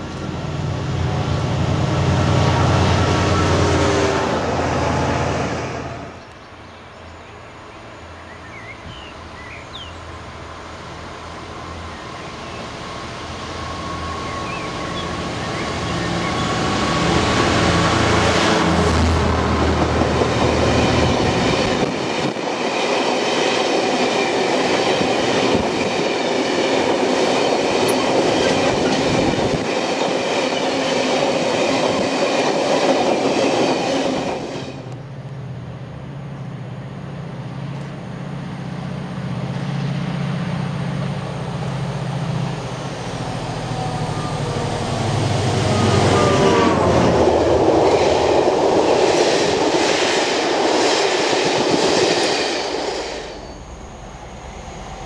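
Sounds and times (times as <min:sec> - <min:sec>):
diesel locomotive engine: 0:00.0 - 0:55.0
train wheels rumbling on rail: 0:08.5 - 0:55.0.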